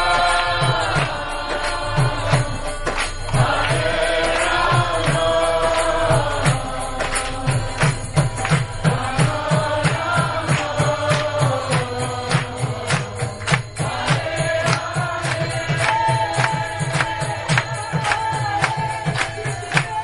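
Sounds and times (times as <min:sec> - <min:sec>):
sharp percussive strokes: 0:00.0 - 0:20.0
steady drum beat: 0:00.0 - 0:20.0
voices chanting: 0:00.0 - 0:20.0.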